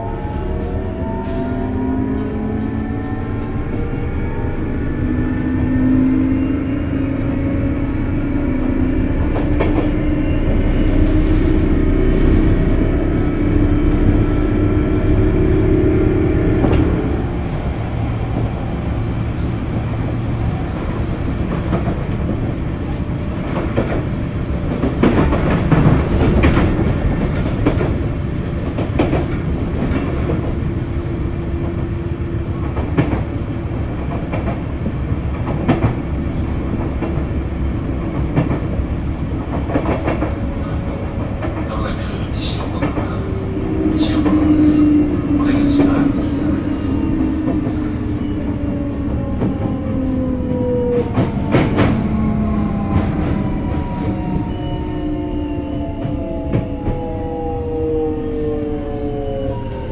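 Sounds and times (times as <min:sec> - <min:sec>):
train wheel rumble: 0:00.0 - 0:59.9.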